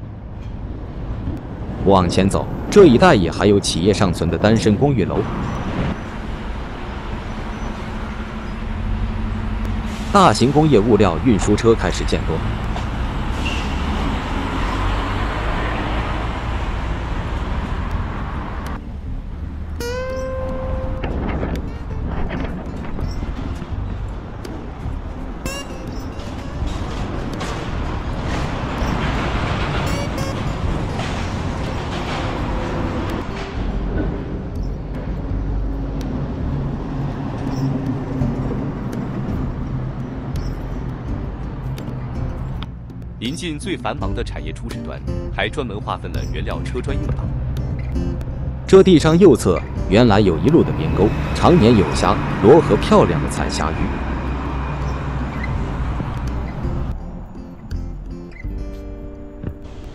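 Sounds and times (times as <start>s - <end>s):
heavy truck driving past: 0.0s - 44.2s, 45.0s - 59.9s
heavy vehicle engine droning: 0.0s - 59.9s.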